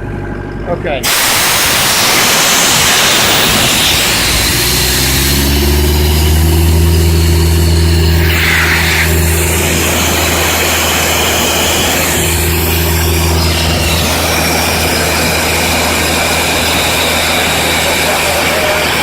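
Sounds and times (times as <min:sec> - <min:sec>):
diesel compressor engine running: 0:00.0 - 0:19.0
compressed air hissing: 0:01.0 - 0:19.0.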